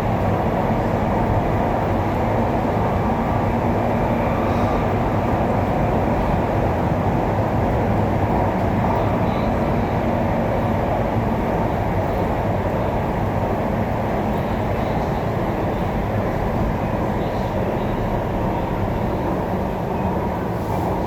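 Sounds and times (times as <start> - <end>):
electric train rumbling on rails: 0.0 - 21.0.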